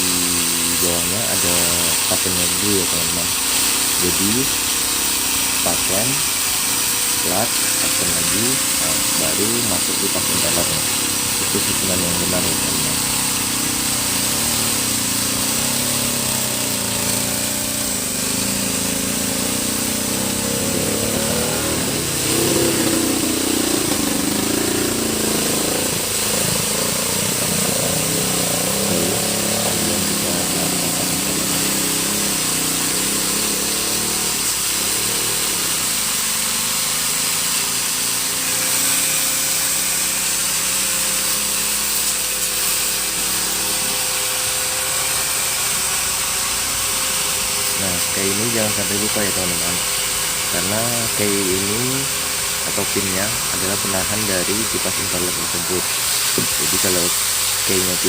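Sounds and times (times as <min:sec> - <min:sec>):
machine running steadily: 0:00.0 - 0:58.0.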